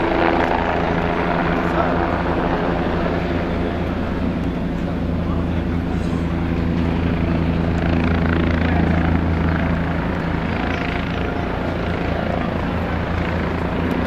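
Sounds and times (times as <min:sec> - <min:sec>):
helicopter rotor beating: 0:00.0 - 0:14.0.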